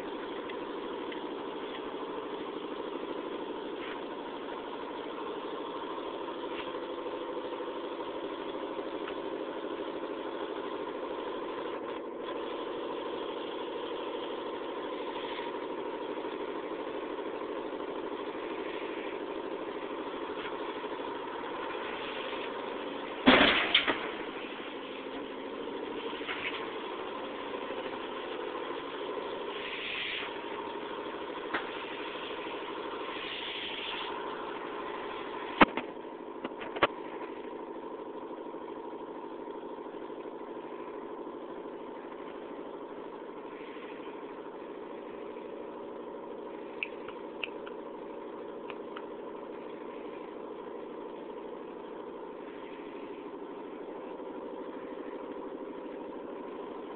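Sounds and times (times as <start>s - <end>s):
steady mechanical hum: 0.0s - 56.9s.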